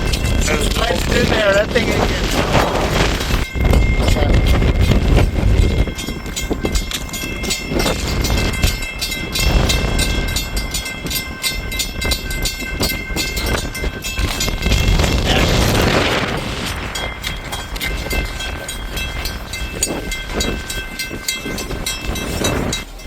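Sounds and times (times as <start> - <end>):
high ringing tones: 0.0 - 23.0
train wheels clattering: 0.0 - 23.0
wind buffeting microphone: 0.0 - 23.0.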